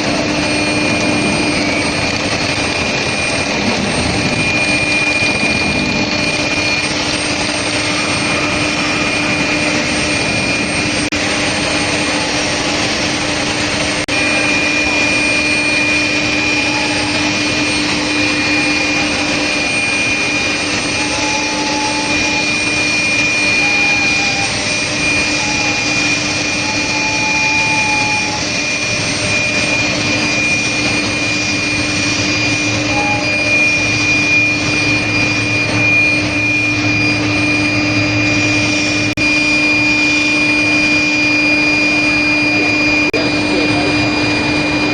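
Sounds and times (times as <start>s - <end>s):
high machine whine: 0.0s - 44.9s
low industrial hum: 0.0s - 44.9s.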